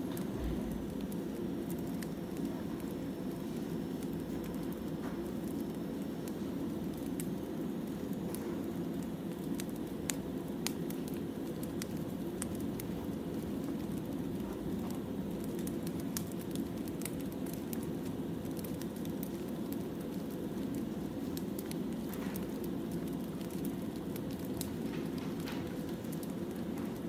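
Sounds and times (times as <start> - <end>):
burning logs crackling and popping: 0.0 - 27.0.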